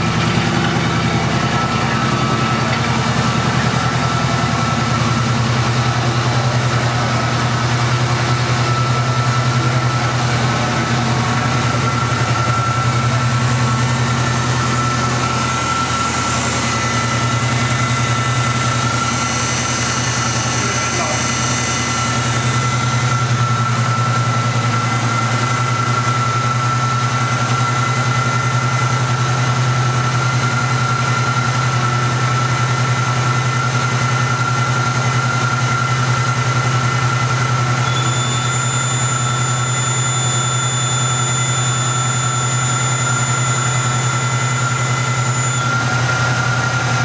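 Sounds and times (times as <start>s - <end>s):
high whine: 0.0s - 31.5s, 35.0s - 47.0s
car engine idling: 0.0s - 47.0s.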